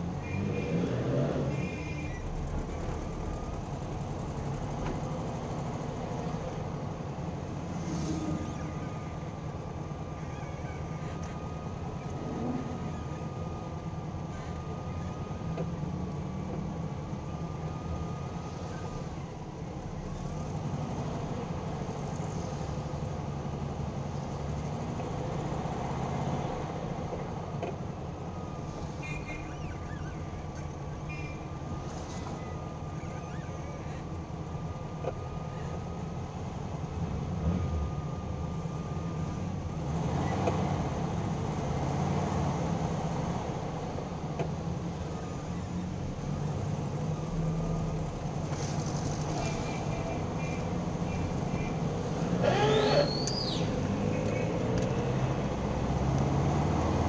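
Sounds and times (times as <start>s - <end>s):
car engine drone: 0.0s - 57.0s.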